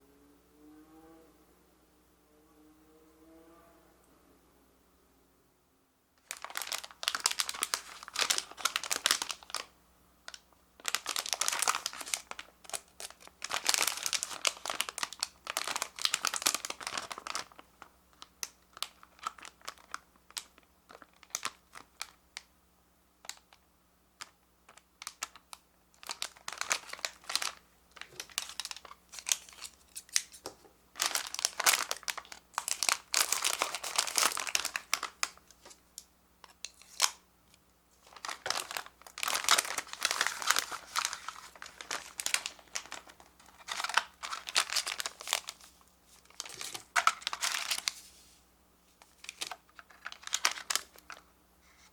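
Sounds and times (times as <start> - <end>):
packaging crinkling and rustling: 6.2 - 9.7, 10.3 - 22.5, 23.2 - 23.6, 24.2 - 51.9.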